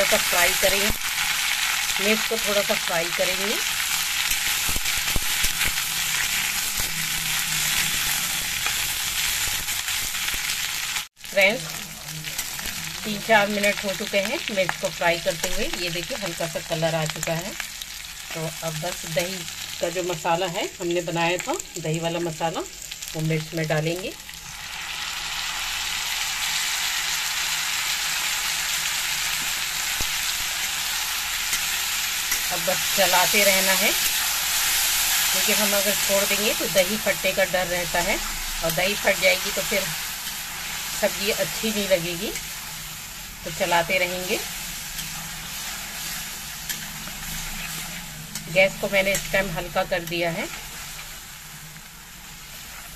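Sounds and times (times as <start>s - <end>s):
chillies and garlic sizzling in oil: 0.0s - 52.9s.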